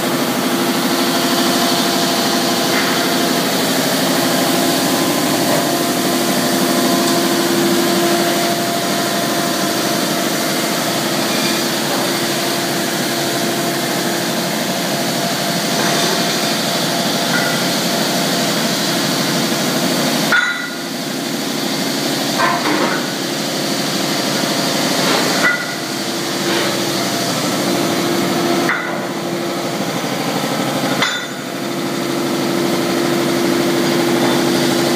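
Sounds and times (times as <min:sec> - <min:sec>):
deburring machine humming: 0:00.0 - 0:34.9.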